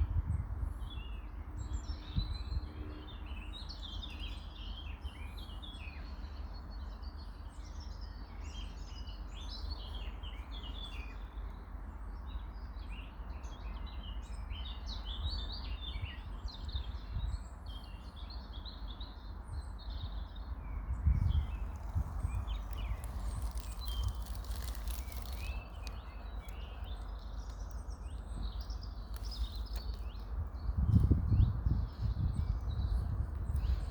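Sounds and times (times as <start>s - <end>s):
birds chirping: 0.9s - 33.9s.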